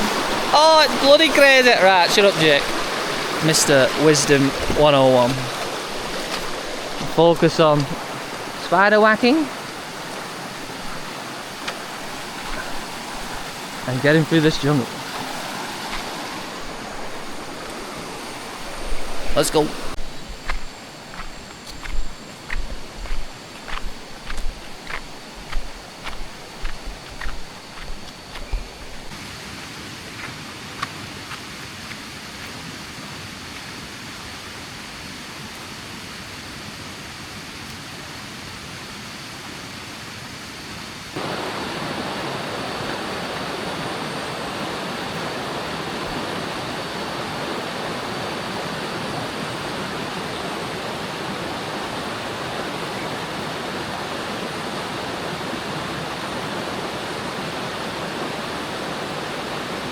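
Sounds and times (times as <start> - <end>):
water rushing in stream: 0.0 - 59.9.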